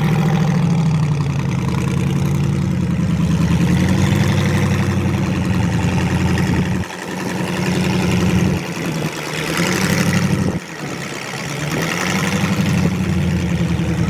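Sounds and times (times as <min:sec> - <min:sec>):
engine running loudly: 0:00.0 - 0:14.0.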